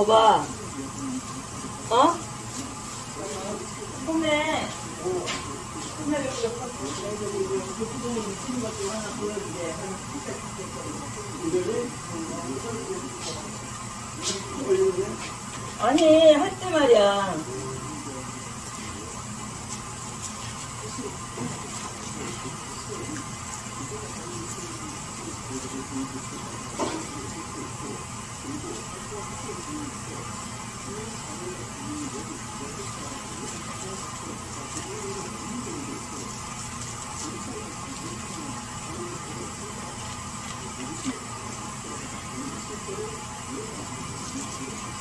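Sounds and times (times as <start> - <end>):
faint voices talking: 0.0 - 45.0
mechanical hum with high whine: 0.0 - 45.0.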